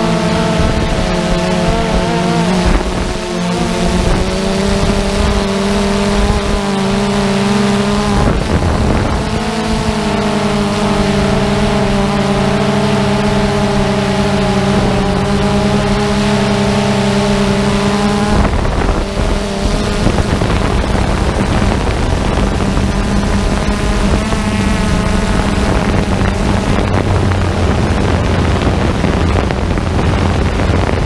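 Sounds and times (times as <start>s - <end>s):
drone motors humming: 0.0s - 31.0s
wind buffeting microphone: 0.0s - 31.0s.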